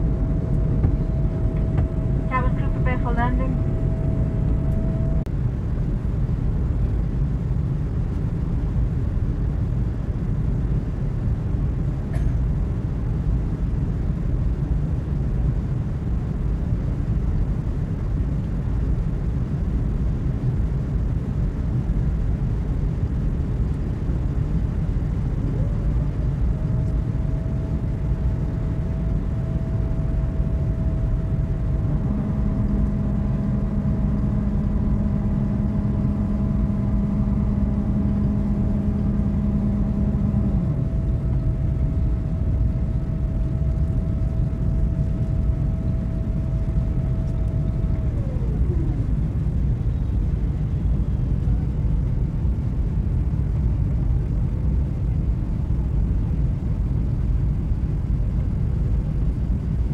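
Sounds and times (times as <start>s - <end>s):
airliner engine rumble: 0.0s - 59.9s
faint whine: 0.0s - 59.9s
low hum: 0.0s - 59.9s.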